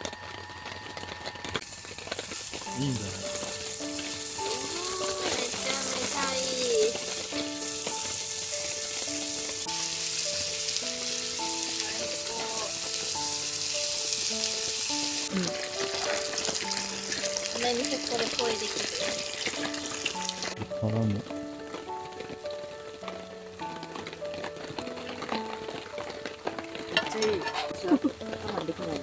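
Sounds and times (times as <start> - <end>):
food sizzling in a pan: 0.0 - 29.0
background music melody: 2.3 - 29.0.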